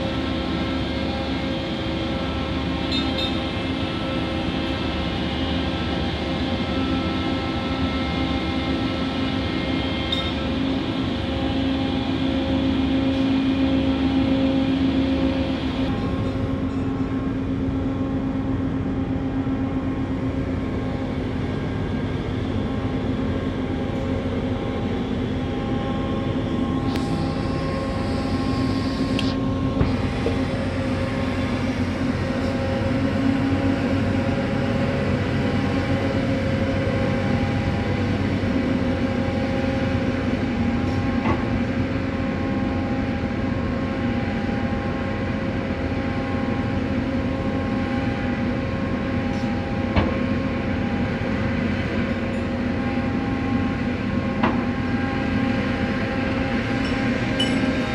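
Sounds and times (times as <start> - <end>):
crane machinery humming: 0.0 - 57.9.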